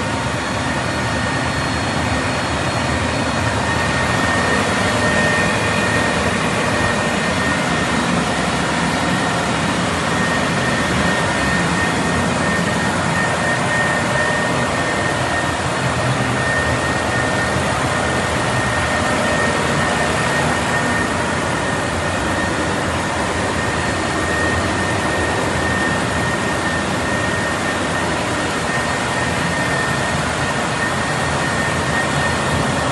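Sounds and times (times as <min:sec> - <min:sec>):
generator engine running: 0:00.0 - 0:32.9
steady high whine: 0:00.0 - 0:32.9.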